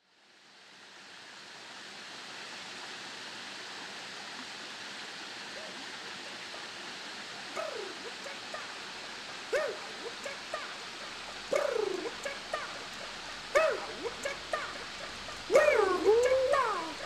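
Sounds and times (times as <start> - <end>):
stream rushing over rocks: 0.2 - 17.0.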